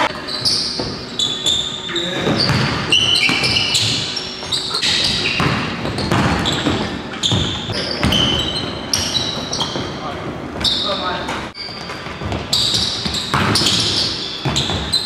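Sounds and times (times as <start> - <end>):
sneakers squeaking on hardwood: 0.0 - 15.0
basketball bouncing: 2.2 - 15.0.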